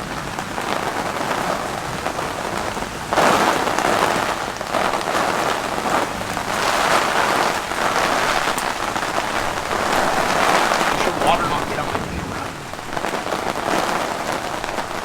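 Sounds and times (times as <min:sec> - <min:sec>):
heavy rain on hard surfaces: 0:00.0 - 0:15.0.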